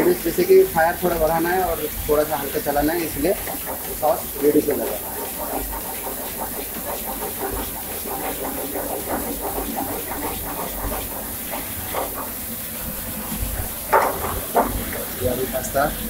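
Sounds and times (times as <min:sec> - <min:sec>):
wooden spatula stirring: 0:00.0 - 0:15.2
gas burner hissing: 0:00.0 - 0:16.0
pasta sauce sizzling in frying pan: 0:00.0 - 0:16.0.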